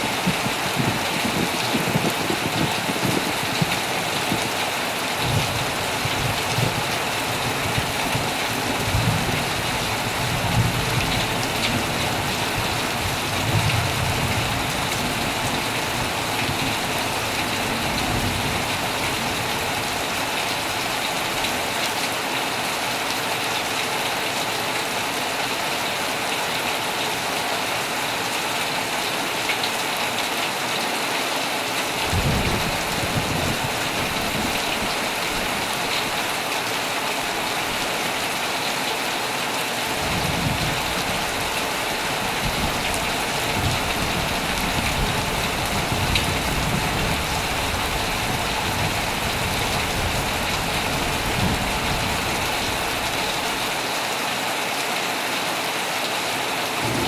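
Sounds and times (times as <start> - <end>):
heavy rain on a tent: 0.0 - 57.0.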